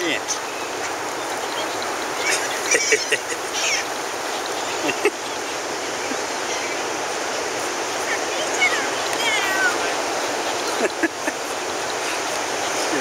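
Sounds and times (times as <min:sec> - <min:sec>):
seagull calls: 0:00.0 - 0:07.2, 0:07.9 - 0:13.0
beach surf: 0:00.0 - 0:13.0
wind: 0:00.0 - 0:13.0.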